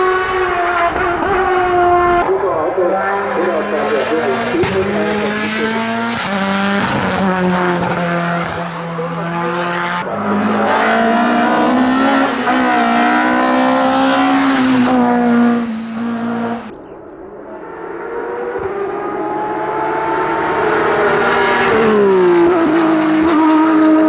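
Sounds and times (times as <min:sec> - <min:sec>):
race car engine at high revs: 0:00.0 - 0:24.0.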